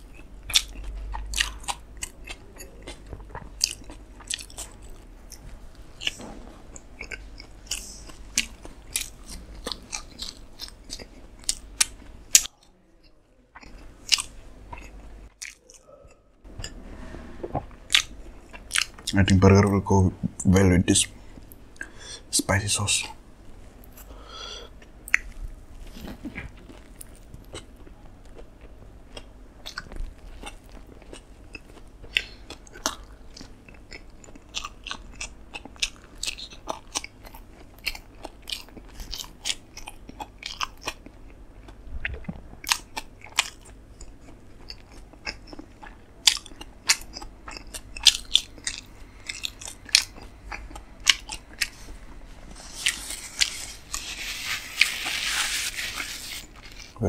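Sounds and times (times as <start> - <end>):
wet chewing: 0.0 - 12.8, 17.5 - 19.2, 23.8 - 57.0.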